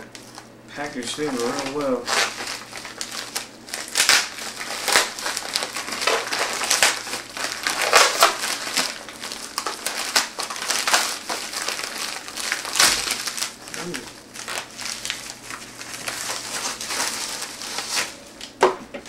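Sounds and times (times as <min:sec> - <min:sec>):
plastic mailer crinkling: 0:00.0 - 0:18.6.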